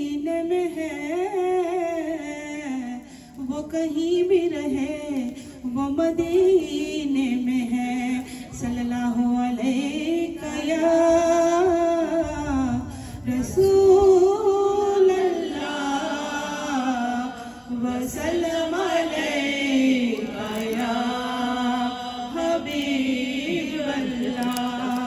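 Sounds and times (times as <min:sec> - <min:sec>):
women singing together unaccompanied: 0:00.0 - 0:25.0.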